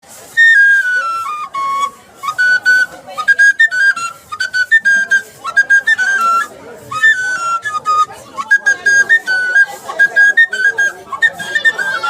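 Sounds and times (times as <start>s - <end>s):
flute melody: 0.0s - 12.0s.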